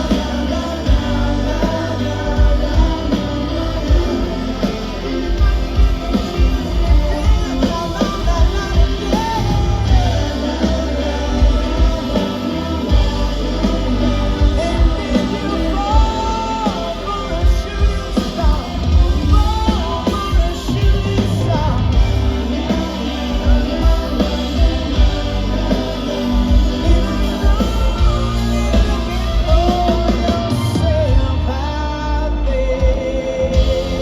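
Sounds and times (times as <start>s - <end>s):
person singing: 0.0s - 34.0s
rock band playing live: 0.0s - 34.0s.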